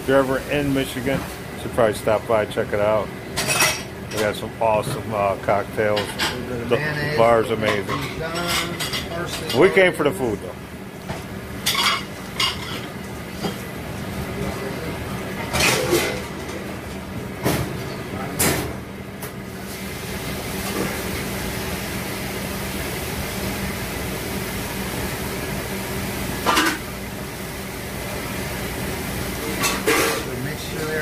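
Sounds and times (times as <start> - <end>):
kitchen machine hum: 0.0 - 31.0.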